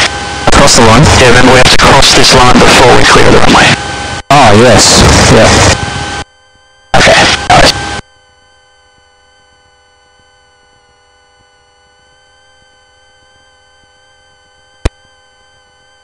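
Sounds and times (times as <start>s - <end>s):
intercom electronic hum: 0.0s - 16.0s.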